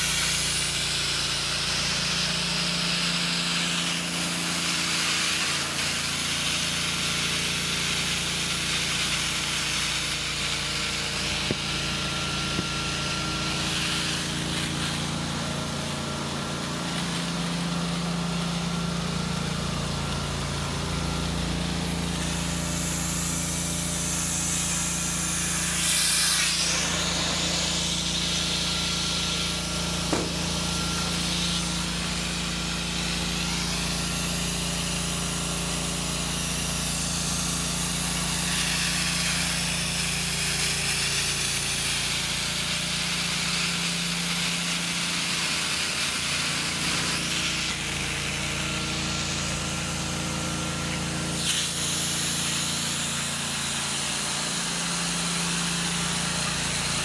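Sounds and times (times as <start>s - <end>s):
vacuum humming: 0.0s - 57.0s.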